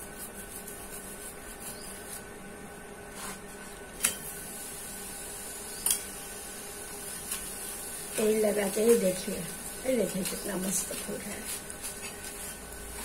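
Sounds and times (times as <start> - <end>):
gas stove hiss and hum: 0.0 - 13.0.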